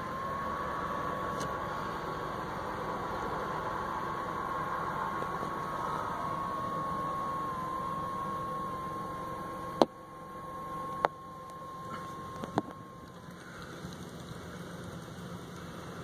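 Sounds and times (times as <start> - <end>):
car engine idling: 0.0 - 16.0
thin steady whine: 0.0 - 16.0.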